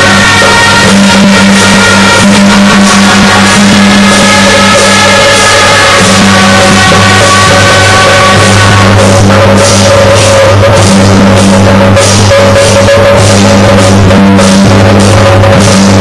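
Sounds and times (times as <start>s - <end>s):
sharp percussion strikes: 0.0s - 16.0s
sustained melody: 0.0s - 16.0s.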